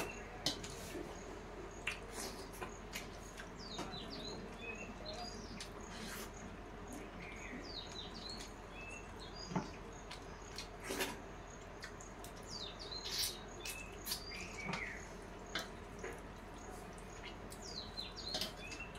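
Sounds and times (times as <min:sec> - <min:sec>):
birds chirping: 0:00.0 - 0:18.9
people eating by hand from plates: 0:00.0 - 0:18.9.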